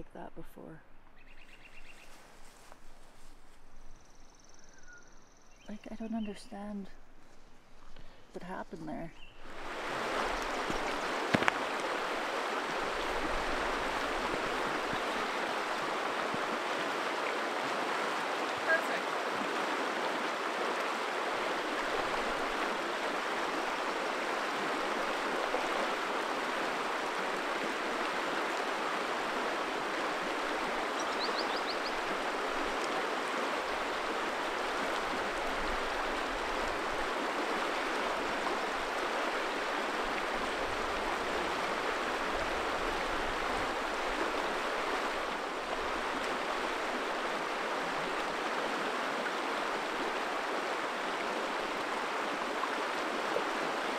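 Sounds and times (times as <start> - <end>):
river water rushing: 9.3 - 53.9.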